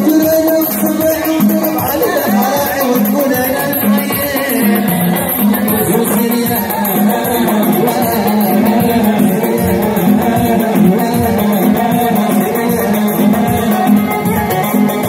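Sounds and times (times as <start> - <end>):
dance music over speakers: 0.0 - 15.0
fast percussion beat: 0.0 - 15.0
person singing: 0.0 - 15.0.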